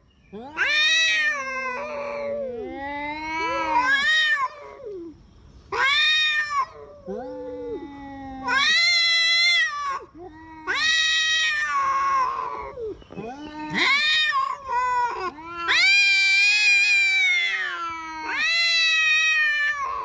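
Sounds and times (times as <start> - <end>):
cats yowling: 0.3 - 20.0.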